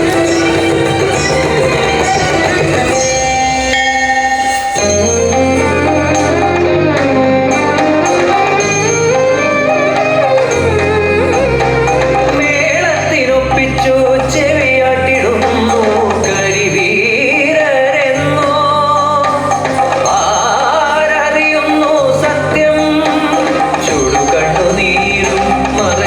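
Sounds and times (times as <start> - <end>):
song with singing voice and instruments: 0.0 - 26.0.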